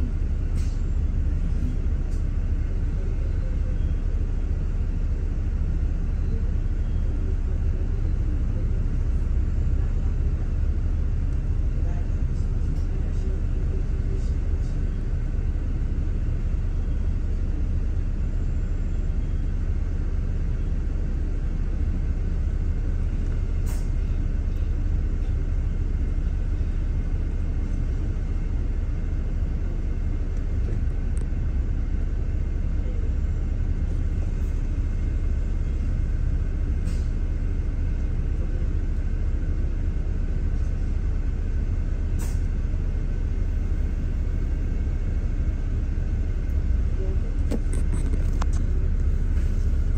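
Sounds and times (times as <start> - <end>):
bus engine rumble: 0.0 - 49.9
road noise: 0.0 - 49.9.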